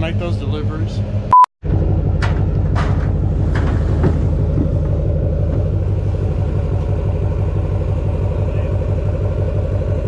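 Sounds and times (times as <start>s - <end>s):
diesel pickup engine throbbing: 0.0s - 10.0s.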